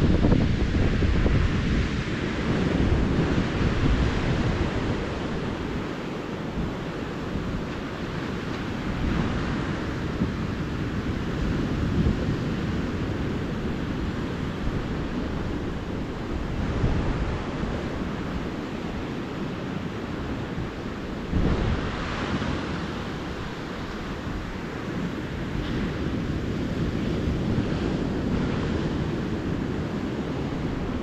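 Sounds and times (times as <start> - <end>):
ocean surf washing ashore: 0.0 - 31.0.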